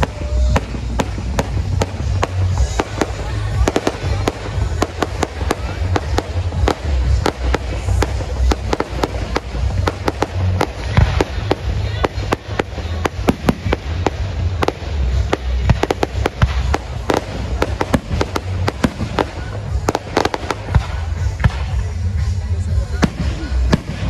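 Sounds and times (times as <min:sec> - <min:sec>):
sharp bangs and crackles: 0:00.0 - 0:21.8.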